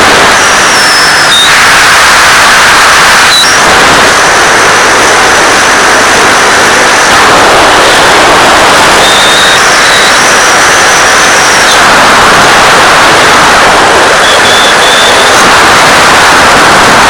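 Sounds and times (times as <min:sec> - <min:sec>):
faint high whine: 0:00.0 - 0:17.0
loud rushing hiss: 0:00.0 - 0:17.0.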